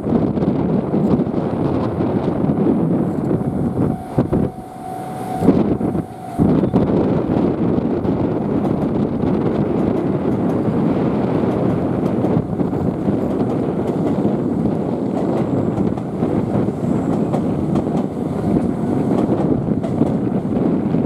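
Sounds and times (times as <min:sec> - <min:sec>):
electric train running on tracks: 0:00.0 - 0:21.0
wind rumble on microphone: 0:00.0 - 0:21.0.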